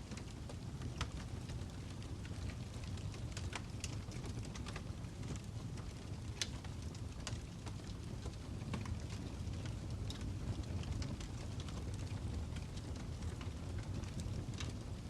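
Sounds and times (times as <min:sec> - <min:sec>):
fire crackles and pops: 0:00.0 - 0:15.0
fire rumbling: 0:00.0 - 0:15.0.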